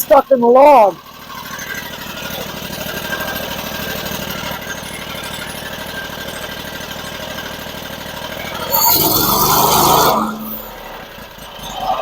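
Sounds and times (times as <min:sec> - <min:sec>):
sawmill engine running: 0:01.0 - 0:11.4.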